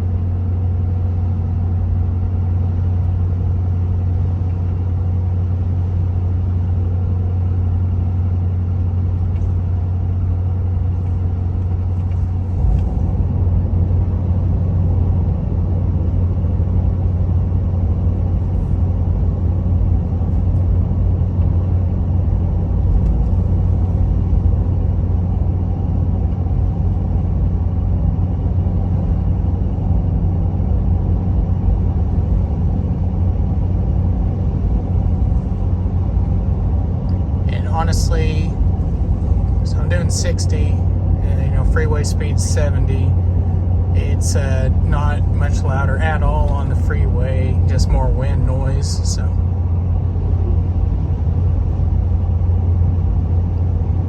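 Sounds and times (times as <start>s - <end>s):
low exhaust drone: 0.0s - 54.0s
tire hum: 0.0s - 54.0s.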